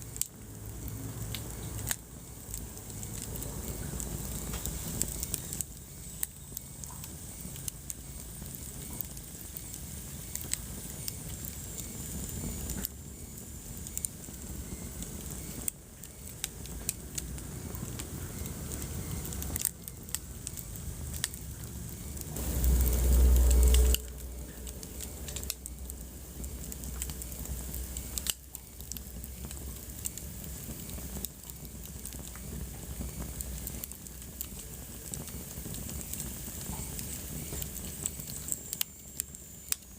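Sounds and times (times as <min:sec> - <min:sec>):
deep rush of fire: 0:00.0 - 0:39.8
wood fire crackling: 0:00.0 - 0:39.9.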